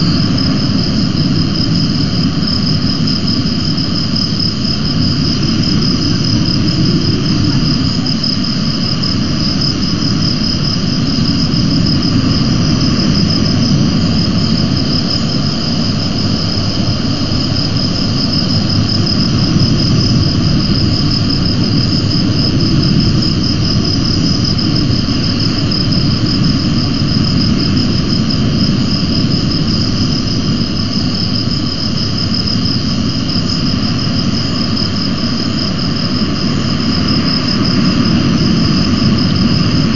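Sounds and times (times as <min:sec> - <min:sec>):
high-pitched insect trilling: 0:00.0 - 0:39.9
low rumble of wind: 0:00.0 - 0:39.9.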